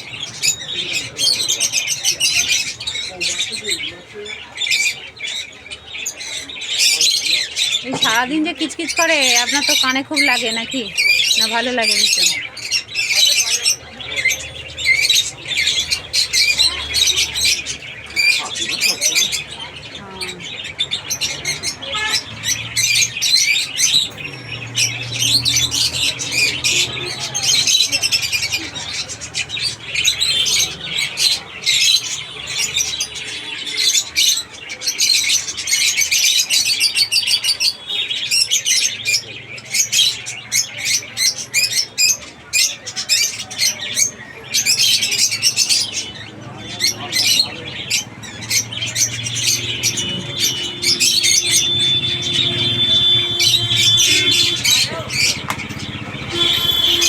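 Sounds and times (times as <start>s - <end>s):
caged birds chirping and squawking: 0.0s - 57.0s.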